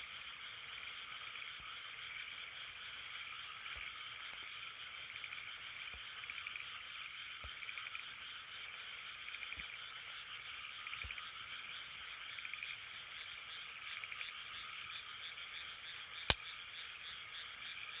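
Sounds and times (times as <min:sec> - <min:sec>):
campfire popping and crackling: 0:00.0 - 0:14.8, 0:15.6 - 0:17.6
frogs trilling: 0:00.0 - 0:18.0.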